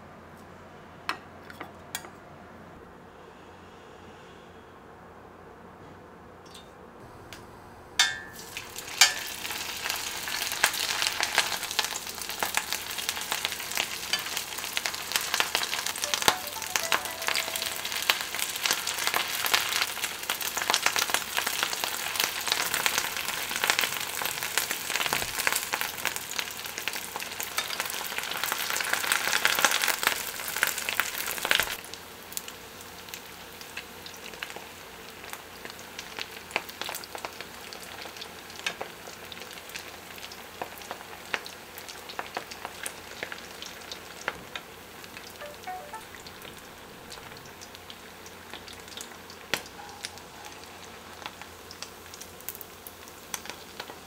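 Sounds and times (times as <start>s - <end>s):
food sizzling in hot oil: 8.0s - 49.8s, 50.6s - 54.0s.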